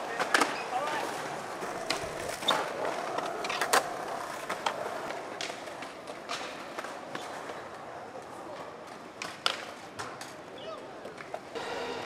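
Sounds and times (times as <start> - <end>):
skateboard wheels rolling on concrete: 0.0 - 12.0
skateboards clacking on ground: 0.0 - 12.0.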